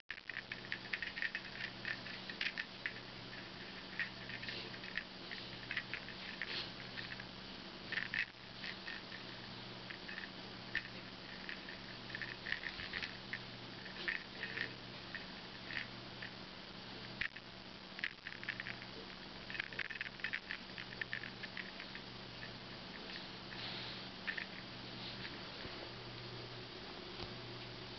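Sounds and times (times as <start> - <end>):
steady low hum: 0.1 - 27.9.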